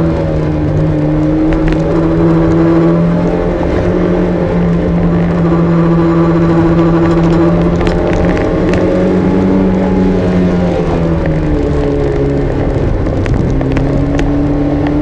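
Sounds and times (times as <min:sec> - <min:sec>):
car engine under load: 0:00.0 - 0:15.0.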